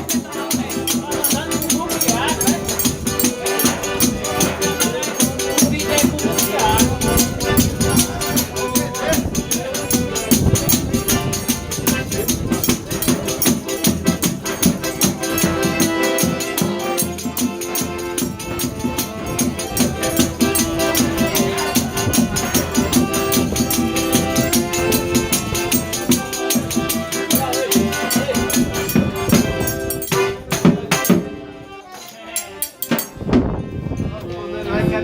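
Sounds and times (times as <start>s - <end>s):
band playing: 0.0s - 35.0s
held melody notes: 0.0s - 35.0s.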